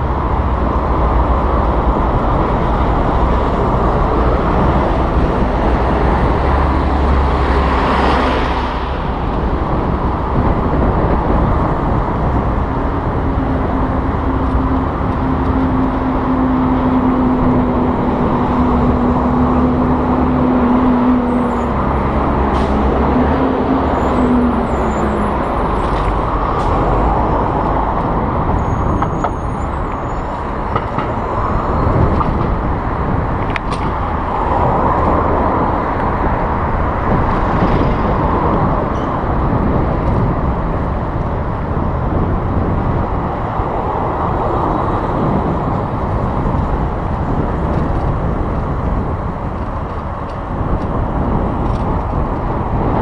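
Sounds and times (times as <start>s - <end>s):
bus engine: 0.0s - 53.0s
street traffic: 0.0s - 53.0s
wind on microphone: 0.0s - 53.0s.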